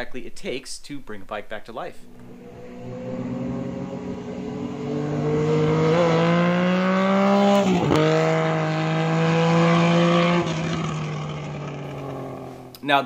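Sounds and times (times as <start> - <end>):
motorcycle engine accelerating: 2.0 - 12.7.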